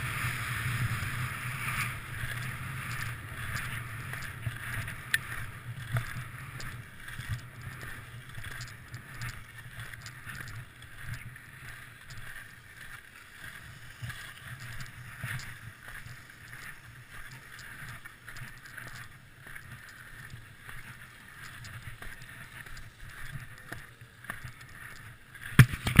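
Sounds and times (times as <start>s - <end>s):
skis sliding on snow: 0.0s - 26.0s.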